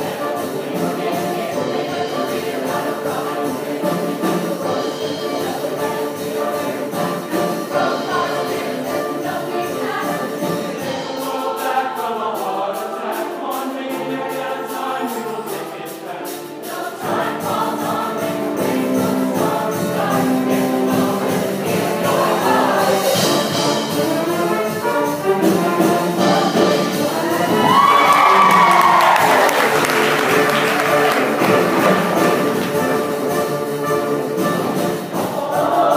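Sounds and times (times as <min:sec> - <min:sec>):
choir singing: 0:00.0 - 0:35.9
instrumental accompaniment: 0:00.0 - 0:35.9
ticking percussion: 0:00.0 - 0:35.9.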